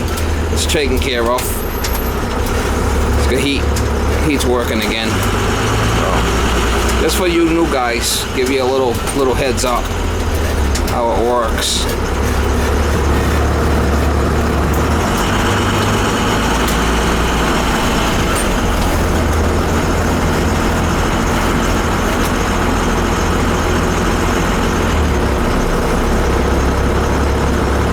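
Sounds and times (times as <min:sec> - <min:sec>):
low mechanical rumble: 0:00.0 - 0:27.9.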